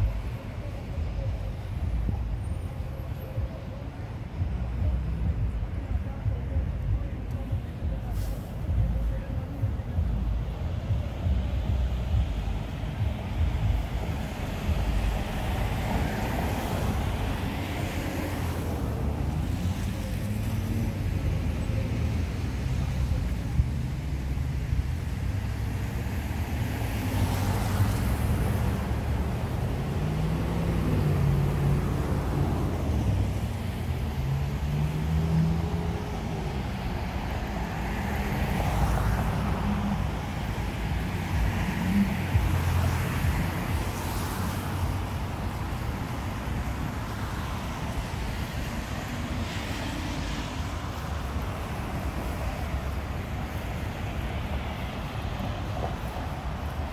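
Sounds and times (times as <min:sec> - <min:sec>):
cars swishing on wet street: 0:00.0 - 0:56.9
low traffic rumble: 0:00.0 - 0:56.9
vehicle engine drone: 0:00.0 - 0:56.9.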